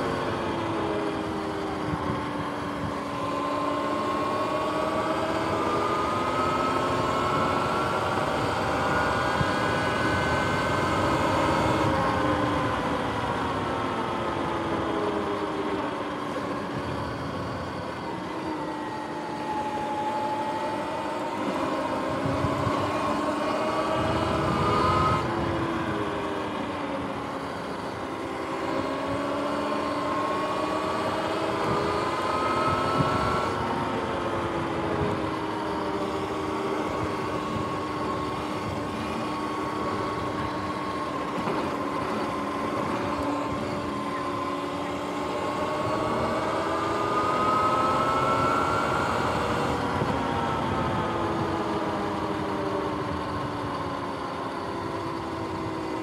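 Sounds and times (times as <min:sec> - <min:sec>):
electric motorbike motor whining: 0:00.0 - 0:56.0.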